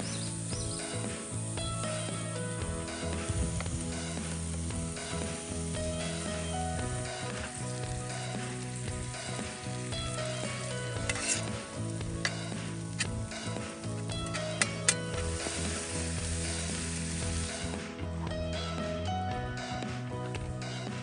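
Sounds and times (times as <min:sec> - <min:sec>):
food sizzling in a pan: 0:00.0 - 0:17.8.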